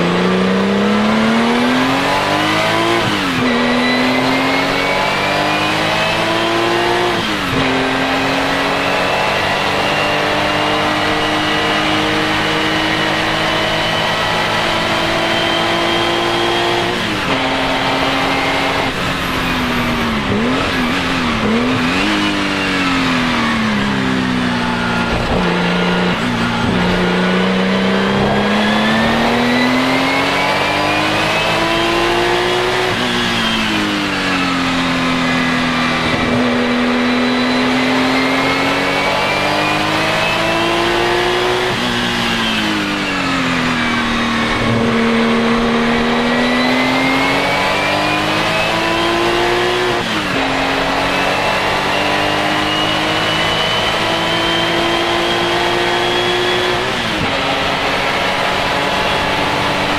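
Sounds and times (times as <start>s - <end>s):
race car engine at full throttle: 0.0s - 59.9s.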